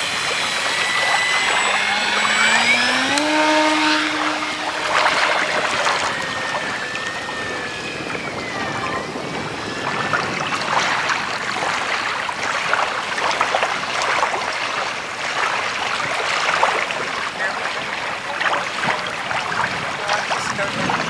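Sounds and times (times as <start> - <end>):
crackling wash of noise: 0.0 - 21.0
electric motor and propeller whine: 0.0 - 21.0.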